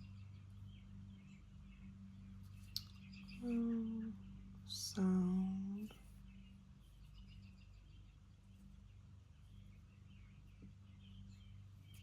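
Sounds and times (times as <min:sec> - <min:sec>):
faint bird chirps: 0:00.0 - 0:12.0
low electrical hum: 0:00.0 - 0:12.0.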